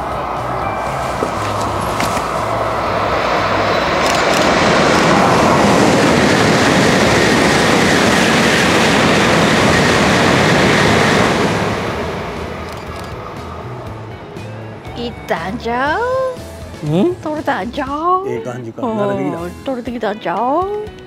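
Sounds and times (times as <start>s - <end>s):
high-speed train rushing past: 0.0s - 19.8s.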